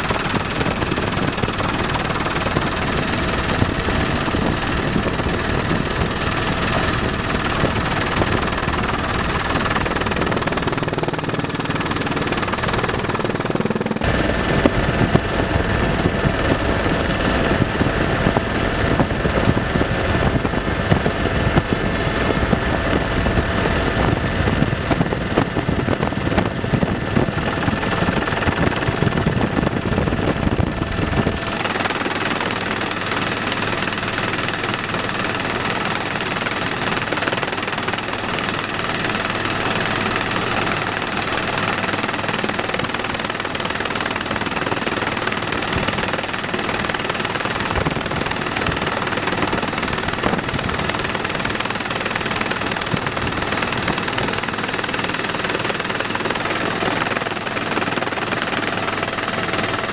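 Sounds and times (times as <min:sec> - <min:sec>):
helicopter rumble and whine: 0:00.0 - 0:59.9.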